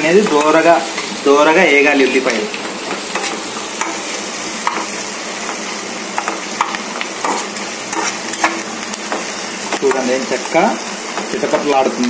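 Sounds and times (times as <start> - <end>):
onions sizzling in hot oil: 0.0 - 12.0
spices crackling: 0.0 - 12.0
spatula scraping and tapping pan: 2.2 - 12.0.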